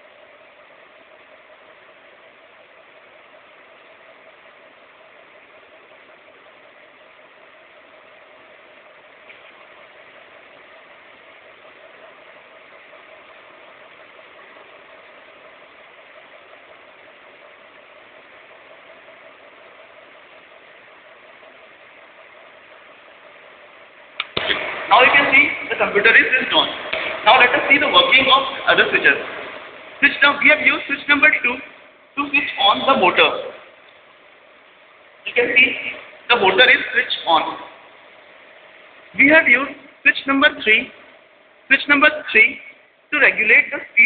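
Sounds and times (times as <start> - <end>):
computer fan hum: 0.0 - 44.0.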